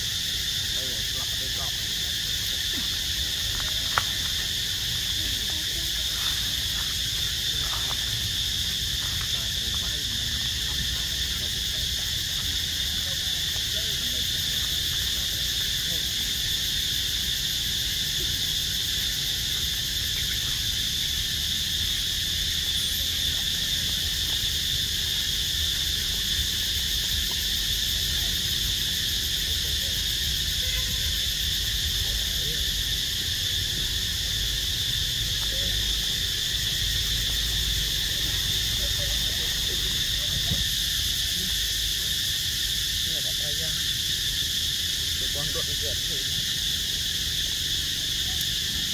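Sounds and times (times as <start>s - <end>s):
insect chorus drone: 0.0s - 48.9s.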